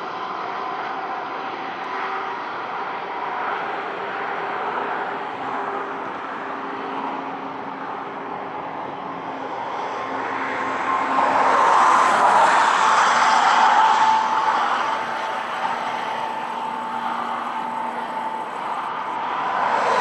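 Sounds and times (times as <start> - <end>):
engine noise: 0.9 - 20.0.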